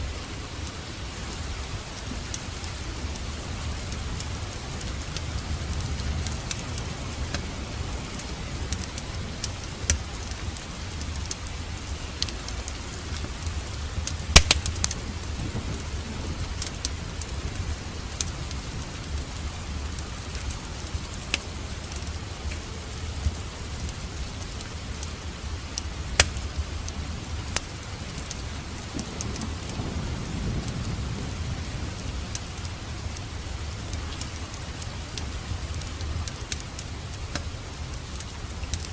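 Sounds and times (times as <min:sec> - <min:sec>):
steady rain: 0:00.0 - 0:38.9
wood fire crackling: 0:00.0 - 0:38.9
low rumble of thunder: 0:00.2 - 0:38.0.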